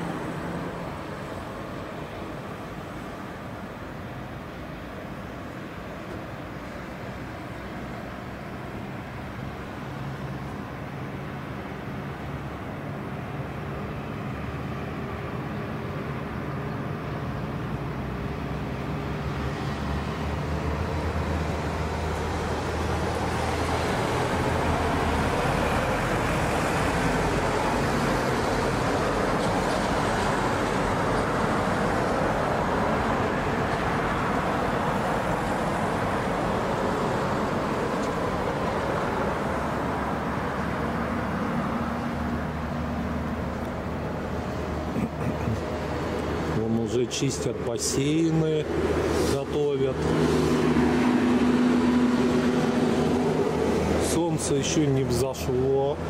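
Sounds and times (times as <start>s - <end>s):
distant motor vehicle rumble: 0.0s - 56.0s.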